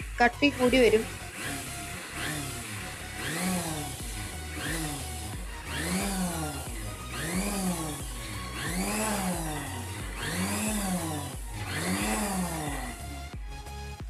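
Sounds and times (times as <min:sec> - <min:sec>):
mixer grinder motor whine: 0:00.0 - 0:14.0.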